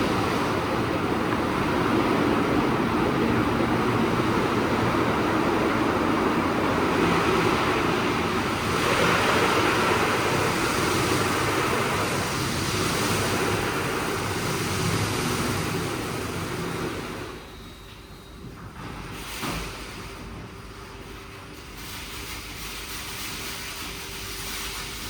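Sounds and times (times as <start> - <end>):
car wash water spray and machinery: 0.0 - 25.0.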